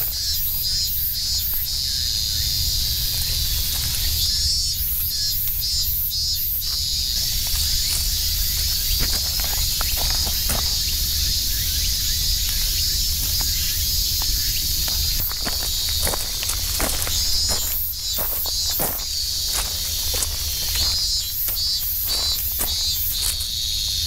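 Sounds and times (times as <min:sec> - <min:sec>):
footsteps in dry leaves: 0:00.0 - 0:04.4, 0:06.7 - 0:24.0
insects chorus: 0:00.0 - 0:24.0.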